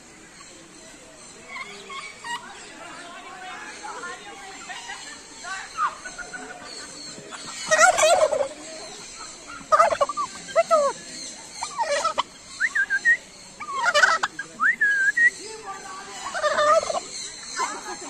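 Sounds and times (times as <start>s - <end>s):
birds warbling calls: 0.0s - 18.0s.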